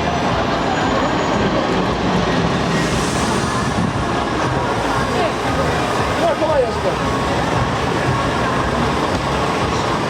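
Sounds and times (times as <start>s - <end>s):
truck diesel engines rumbling: 0.0s - 10.0s.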